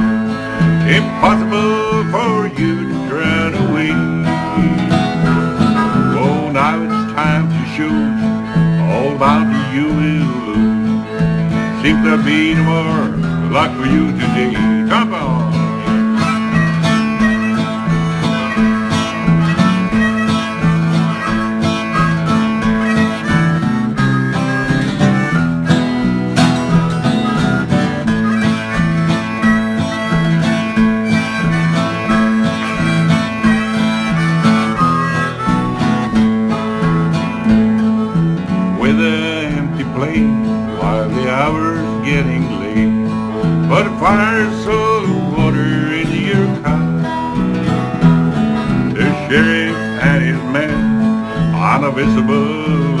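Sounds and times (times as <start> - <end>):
acoustic guitar: 0.0 - 53.0
bass guitar: 0.0 - 53.0
harmonica: 0.0 - 53.0.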